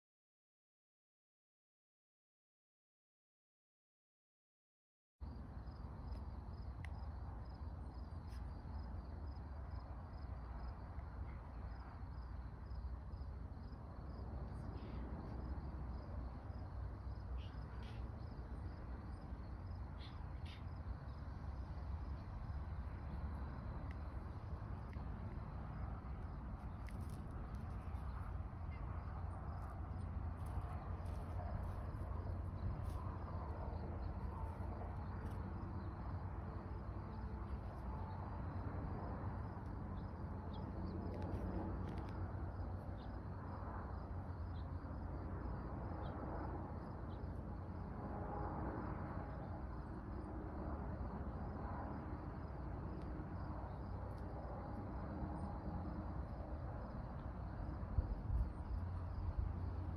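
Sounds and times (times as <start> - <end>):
faint insect chirping: 5.2 - 59.9.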